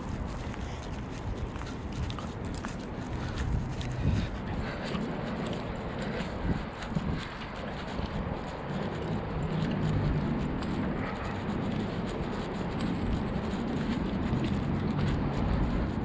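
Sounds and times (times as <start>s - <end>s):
distant road traffic: 0.0s - 16.0s
footsteps on path: 0.0s - 16.0s
wind rumble on microphone: 0.0s - 16.0s.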